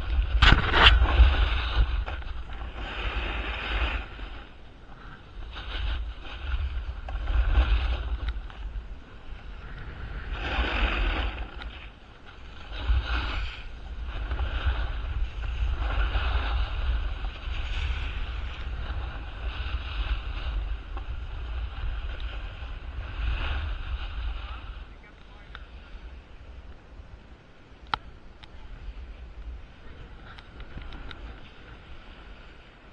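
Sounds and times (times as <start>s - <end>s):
skis scraping packed snow: 0.0s - 26.6s, 28.5s - 32.9s
wind rumbling on microphone: 0.0s - 32.9s.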